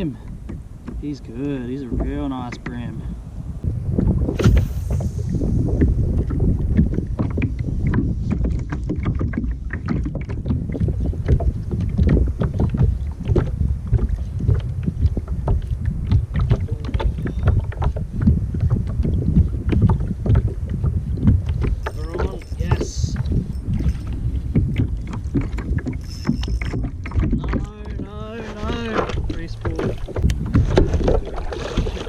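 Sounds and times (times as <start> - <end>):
water splashing against kayak hull: 0.0 - 32.0
wind rumble on microphone: 0.0 - 32.0.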